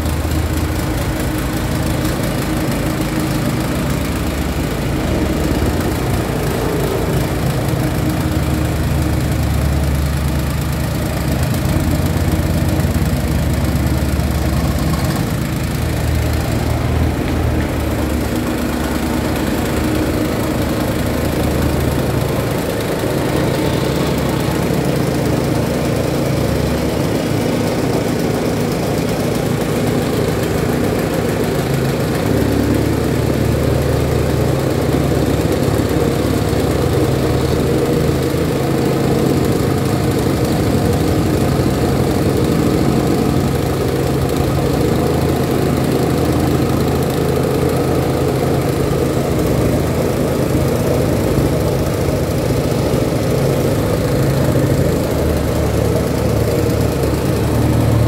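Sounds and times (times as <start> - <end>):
petrol plate compactor running: 0.0 - 58.0.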